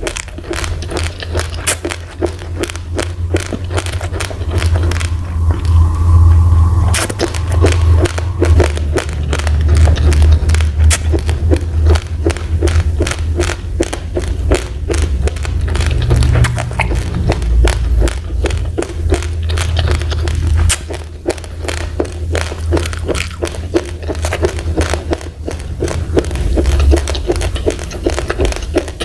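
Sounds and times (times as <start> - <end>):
chewing raw rice crunches: 0.0 - 29.0
low rumble: 0.0 - 29.0.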